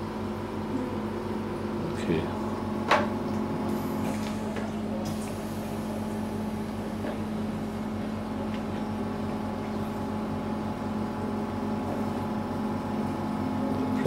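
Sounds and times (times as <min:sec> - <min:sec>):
oxygen generator humming: 0:00.0 - 0:14.0.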